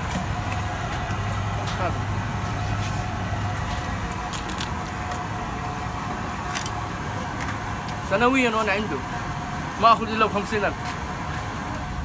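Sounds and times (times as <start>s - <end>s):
low street hum: 0.0s - 12.0s.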